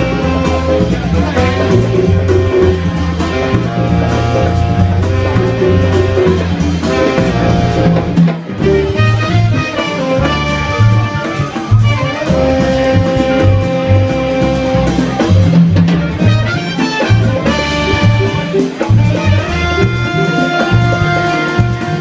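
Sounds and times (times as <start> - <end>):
congas: 0.0 - 22.0
latin jazz band: 0.0 - 22.0
trumpet: 0.0 - 22.0.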